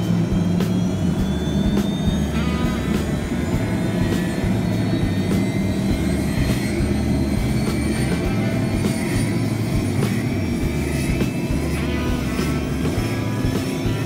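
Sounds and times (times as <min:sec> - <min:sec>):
helicopter turbine engine running: 0:00.0 - 0:14.0.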